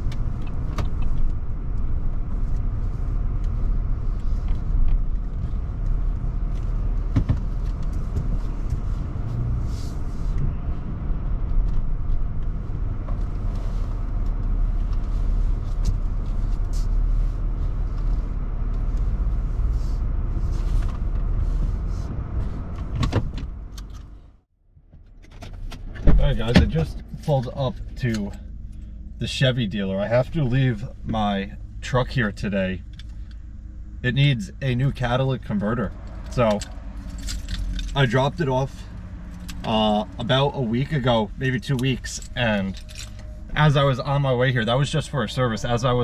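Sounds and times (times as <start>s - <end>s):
engine and road noise rumble: 0.0s - 46.0s.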